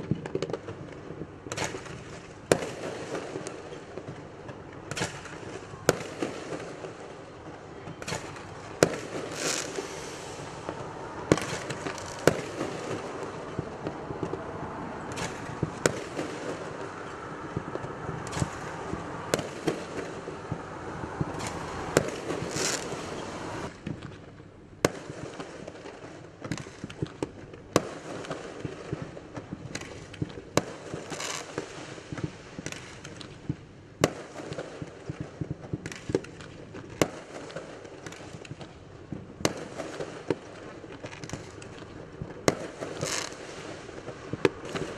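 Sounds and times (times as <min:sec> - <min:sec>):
fireworks bangs: 0:00.0 - 0:24.2, 0:24.8 - 0:44.9
fireworks crackle and hiss: 0:00.0 - 0:44.9.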